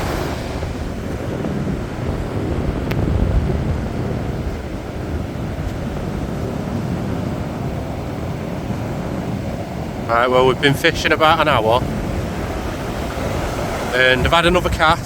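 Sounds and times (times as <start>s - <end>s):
sea surf rushing: 0.0s - 15.0s
wind buffeting microphone: 0.0s - 15.0s.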